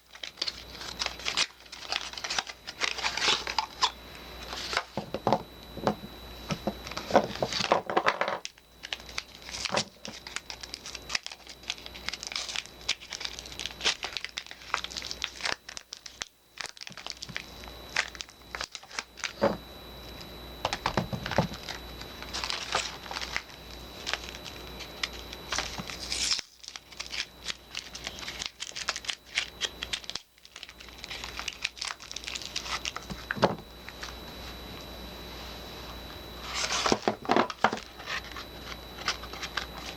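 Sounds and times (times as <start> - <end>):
packaging crinkling and tearing: 0.0 - 5.0, 6.8 - 19.4, 20.7 - 34.1, 36.4 - 39.9.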